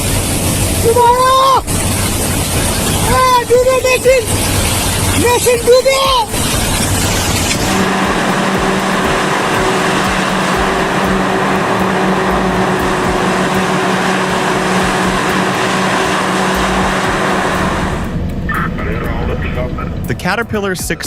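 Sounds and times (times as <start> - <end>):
heavy machine engine humming: 0.0 - 21.0.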